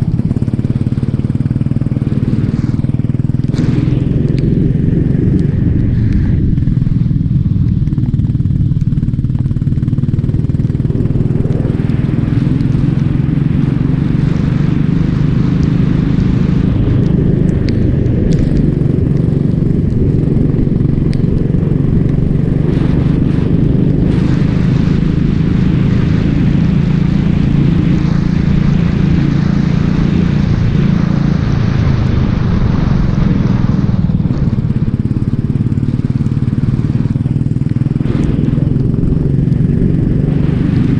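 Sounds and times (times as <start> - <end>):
racing kart engine running hard: 0.0 - 40.9.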